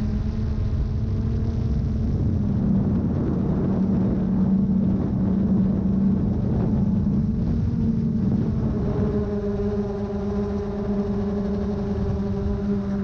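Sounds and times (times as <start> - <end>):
drone propellers humming: 0.0 - 13.0
wind noise on microphone: 0.0 - 13.0.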